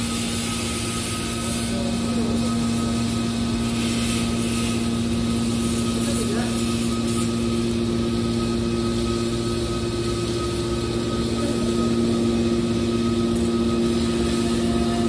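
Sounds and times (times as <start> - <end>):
high-pitched whine: 0.0 - 15.0
machinery hum: 0.0 - 15.0.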